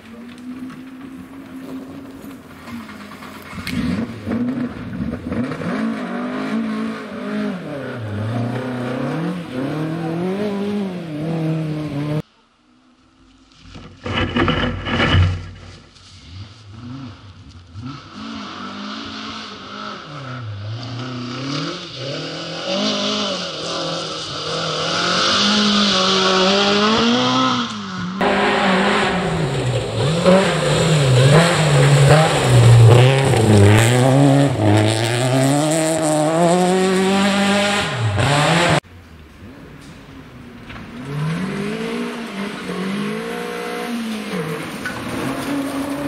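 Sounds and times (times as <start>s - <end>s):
rally car engines revving: 0.0s - 12.3s, 13.8s - 15.8s, 16.4s - 46.0s.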